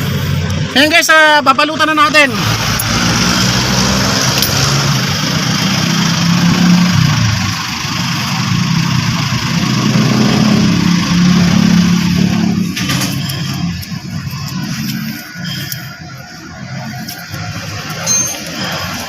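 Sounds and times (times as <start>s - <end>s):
engine humming: 2.3s - 19.0s.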